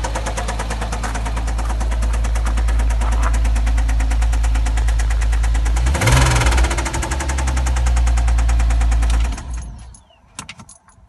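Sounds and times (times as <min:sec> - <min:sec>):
car engine idling with ticking: 0:00.0 - 0:10.9.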